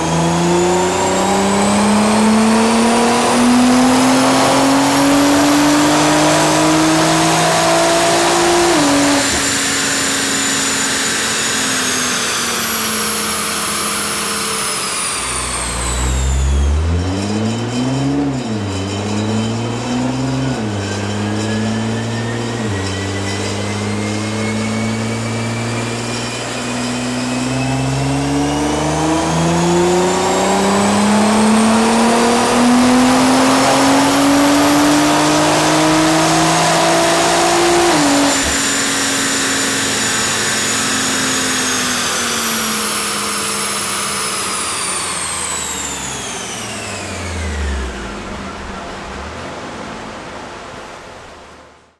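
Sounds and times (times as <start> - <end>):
car engine revving on dyno: 0.0 - 51.9
high wheel whine: 0.0 - 51.9.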